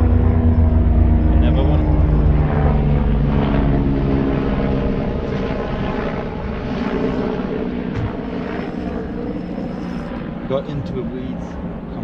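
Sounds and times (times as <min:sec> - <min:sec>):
motor droning: 0:00.0 - 0:12.0.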